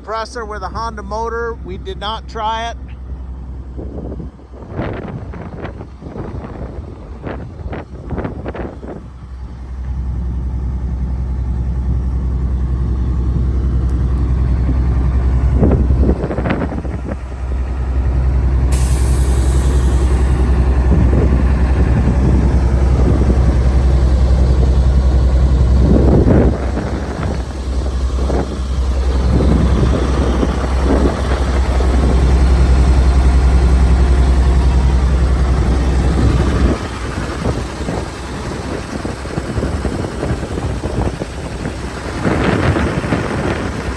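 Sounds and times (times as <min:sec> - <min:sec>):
diesel truck engine idling: 0:00.0 - 0:43.9.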